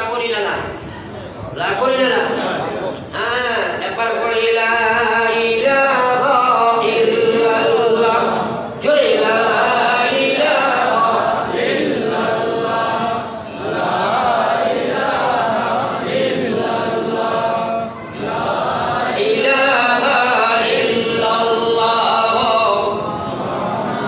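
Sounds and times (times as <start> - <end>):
melodic chanting: 2.5 - 24.0.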